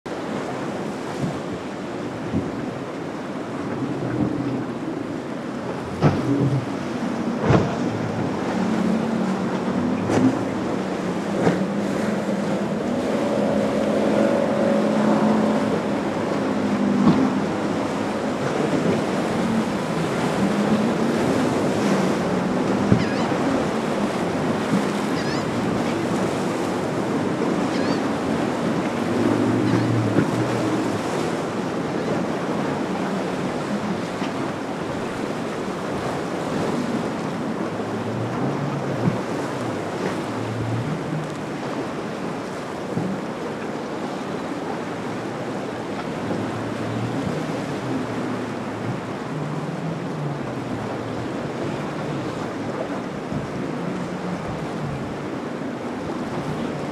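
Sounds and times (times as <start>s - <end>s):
boat engine droning: 0.1s - 56.9s
waves breaking: 0.1s - 56.9s.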